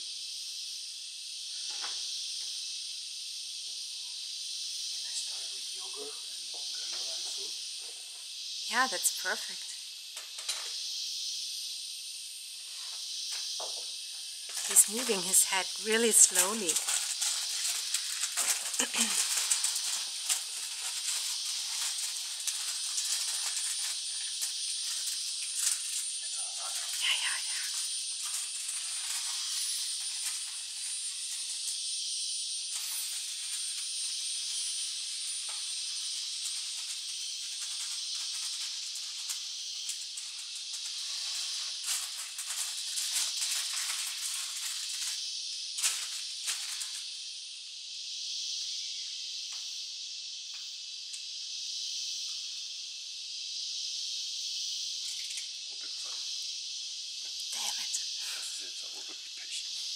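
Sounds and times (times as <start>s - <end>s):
high-pitched hiss: 0.0s - 59.9s
insects droning: 0.0s - 59.9s.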